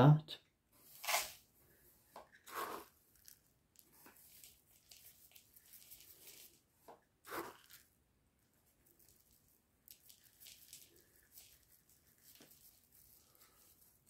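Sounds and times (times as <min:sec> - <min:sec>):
oats rustling into a wire sieve: 0:00.8 - 0:14.0.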